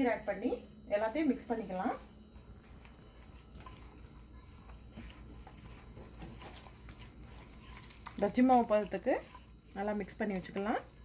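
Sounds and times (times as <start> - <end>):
hand mixing flour in metal bowl: 0.0 - 11.0.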